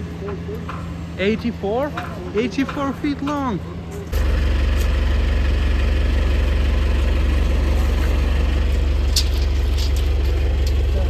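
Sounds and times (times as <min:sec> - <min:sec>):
heavy truck engine rumbling: 0:00.0 - 0:11.0.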